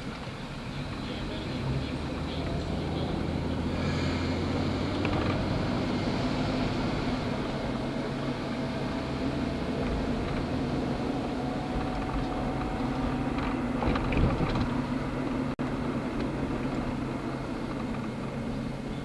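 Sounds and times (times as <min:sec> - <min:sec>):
streetcar running hum: 0:00.0 - 0:19.0.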